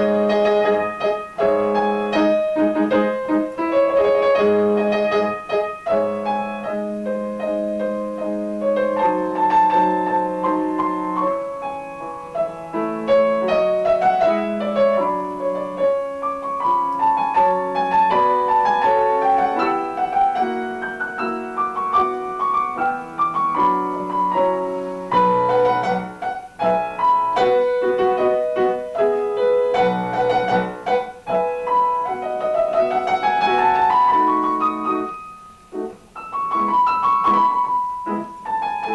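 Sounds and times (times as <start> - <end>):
solo classical piano: 0.0 - 38.9.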